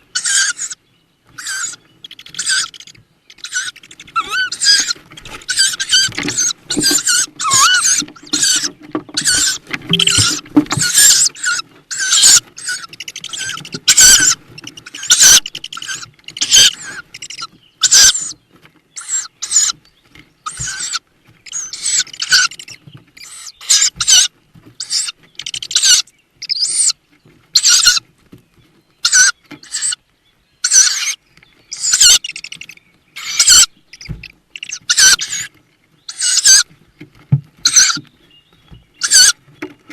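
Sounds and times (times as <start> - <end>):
owl chicks hissing begging calls: 0.0 - 18.4, 19.0 - 19.8, 20.4 - 28.1, 29.0 - 30.0, 30.6 - 36.8, 37.6 - 38.1, 39.0 - 39.4.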